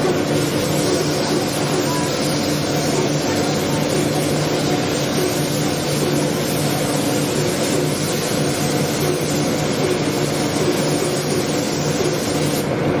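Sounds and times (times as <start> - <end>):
machinery humming with hiss: 0.0 - 13.0.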